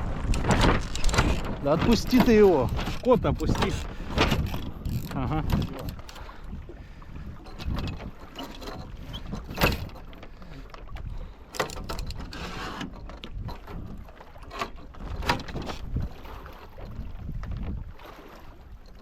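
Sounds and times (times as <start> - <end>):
wind rumble on microphone: 0.0 - 14.1, 14.8 - 19.0
water rushing along hulls: 0.0 - 19.0.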